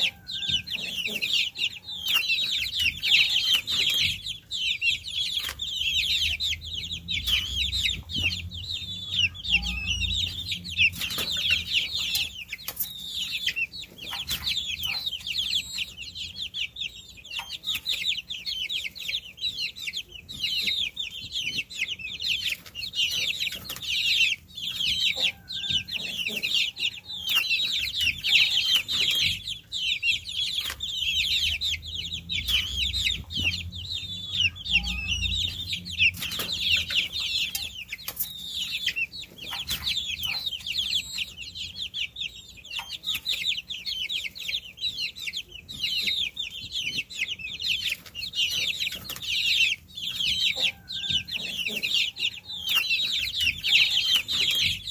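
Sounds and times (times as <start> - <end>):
baby chicks peeping: 0.0 - 54.9.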